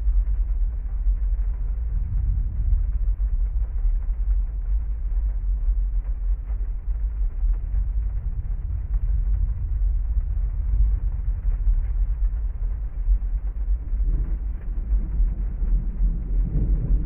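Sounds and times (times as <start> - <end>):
heavy rainstorm rumble: 0.0 - 17.0
thunder rolling: 0.0 - 17.0.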